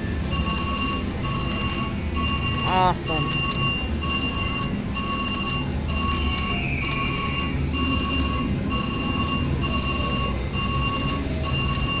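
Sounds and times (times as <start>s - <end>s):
slot machine bell ringing: 0.1s - 12.0s.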